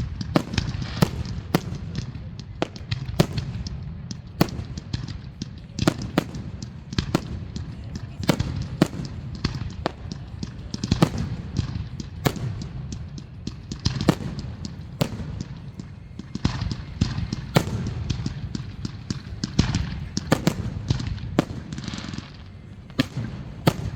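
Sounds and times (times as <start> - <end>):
fireworks bursting with sharp bangs: 0.0 - 23.9.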